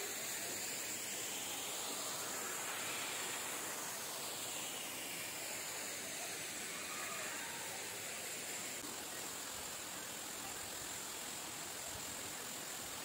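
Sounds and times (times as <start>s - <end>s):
waterfall and stream rushing: 0.0s - 13.0s.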